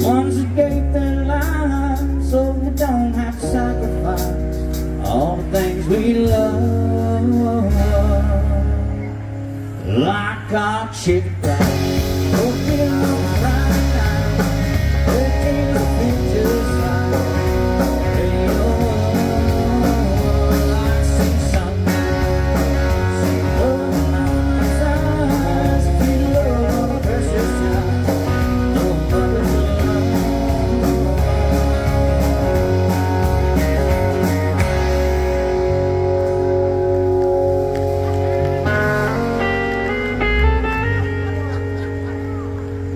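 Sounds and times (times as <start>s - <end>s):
drums with steady beat: 0.0s - 8.5s, 11.4s - 41.3s
bass: 0.0s - 42.9s
lead guitar: 0.0s - 42.9s.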